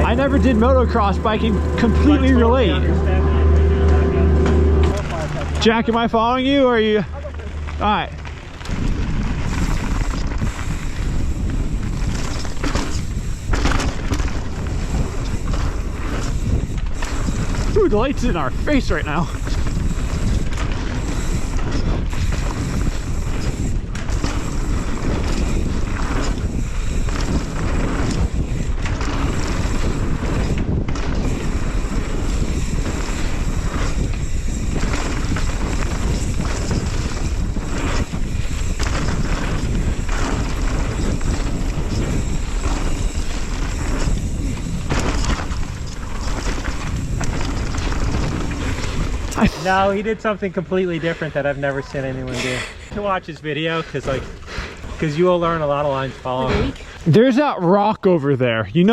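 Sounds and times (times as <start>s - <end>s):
wind buffeting microphone: 0.0s - 57.2s
bike tyres rumbling and rattling: 0.0s - 57.9s.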